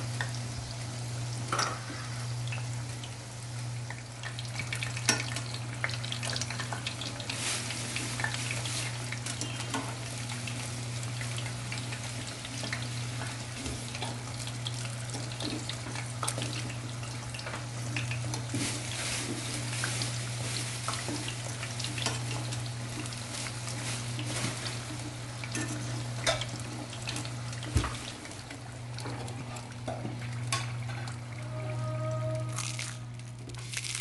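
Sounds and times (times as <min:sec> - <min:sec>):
food sizzling in hot oil: 0:00.0 - 0:29.1.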